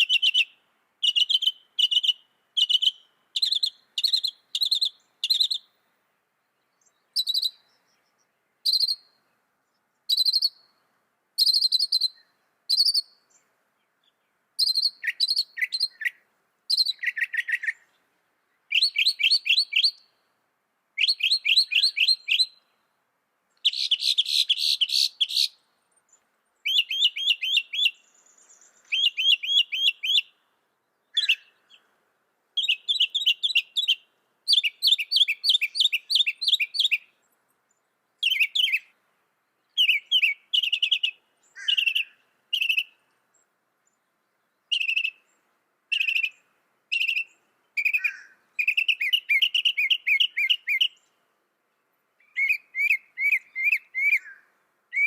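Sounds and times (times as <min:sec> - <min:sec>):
mockingbird singing: 0:00.0 - 0:05.7, 0:06.5 - 0:09.3, 0:10.0 - 0:10.7, 0:11.4 - 0:18.0, 0:18.6 - 0:20.2, 0:21.0 - 0:22.7, 0:23.5 - 0:31.9, 0:32.6 - 0:39.0, 0:39.6 - 0:43.0, 0:44.6 - 0:51.2, 0:52.2 - 0:55.0.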